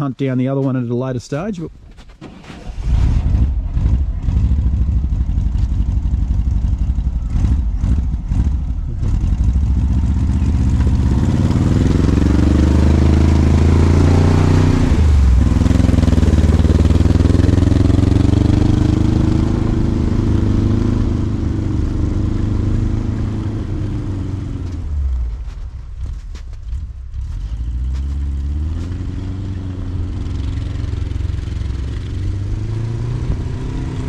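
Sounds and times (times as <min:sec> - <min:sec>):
snowcat engine revving: 0:02.6 - 0:34.0.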